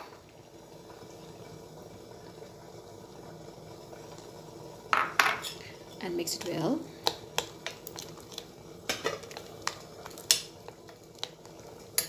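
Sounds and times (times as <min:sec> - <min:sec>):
water simmering in a pot: 0:00.0 - 0:12.0.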